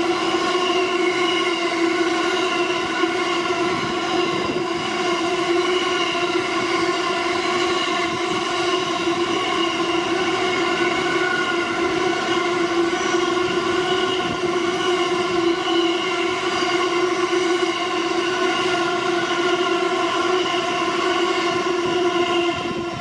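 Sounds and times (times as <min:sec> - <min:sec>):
freight train rolling: 0:00.0 - 0:23.0
loud pitched wheel squeal: 0:00.0 - 0:23.0.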